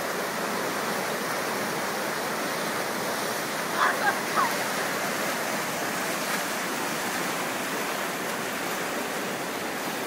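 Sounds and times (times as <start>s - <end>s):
whitewater rapids rushing: 0.0s - 10.0s.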